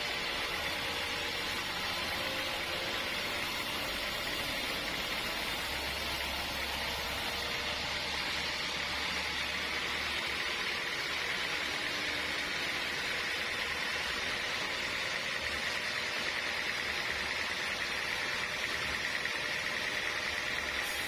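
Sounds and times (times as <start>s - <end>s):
sawmill machinery hissing: 0.0s - 21.0s.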